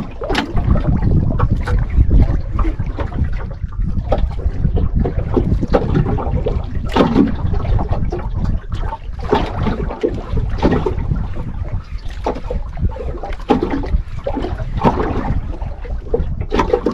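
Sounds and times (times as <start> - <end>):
water sloshing against boat hull: 0.0 - 16.9
wind buffeting microphone: 0.0 - 16.9.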